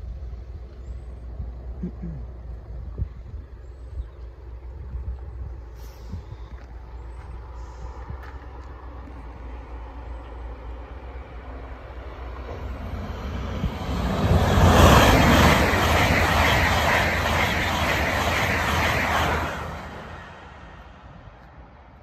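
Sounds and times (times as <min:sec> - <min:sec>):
train passing at speed: 0:04.2 - 0:22.0.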